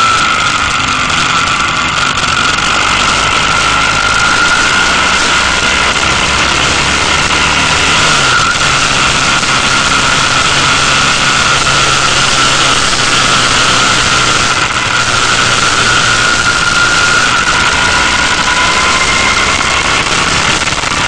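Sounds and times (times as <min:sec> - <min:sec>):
motorcycle engine running: 0:00.0 - 0:21.0
steady high whine: 0:00.0 - 0:21.0.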